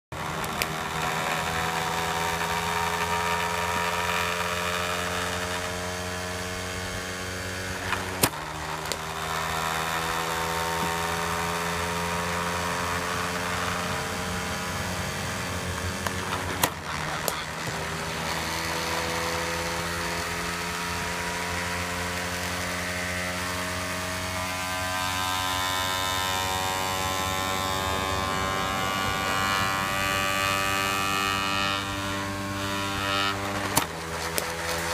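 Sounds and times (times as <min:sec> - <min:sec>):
bowling machine motor whine: 0:00.2 - 0:34.9.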